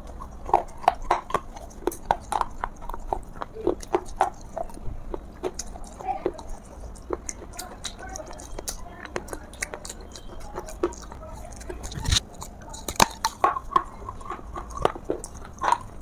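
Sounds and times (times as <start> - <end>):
soft crunchy chewing: 0.0 - 16.0.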